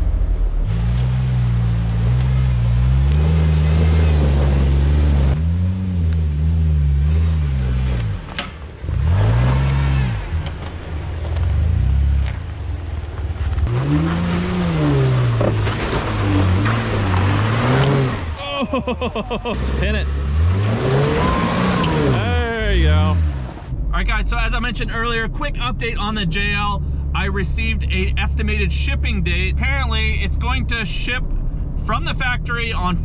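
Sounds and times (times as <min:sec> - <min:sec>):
off-road engines revving: 0:00.6 - 0:30.9.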